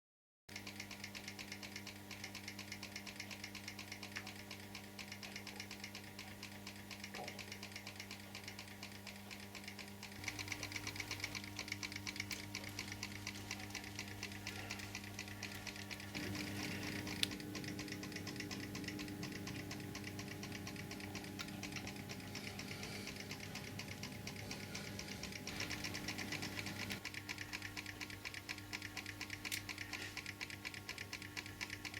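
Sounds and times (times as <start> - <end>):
model mechanism clattering ticks: 0.5 - 31.9
electric motor hum: 2.8 - 31.9.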